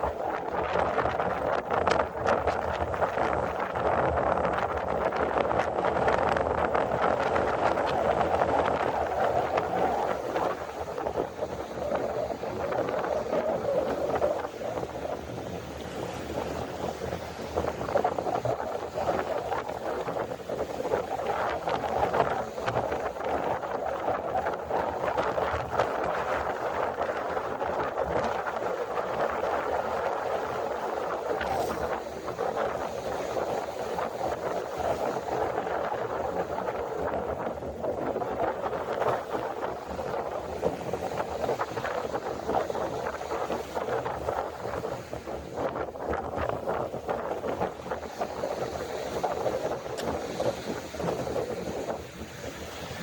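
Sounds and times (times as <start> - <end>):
surf: 0.0 - 53.0
waves at seashore: 0.0 - 53.0
wind: 0.0 - 53.0.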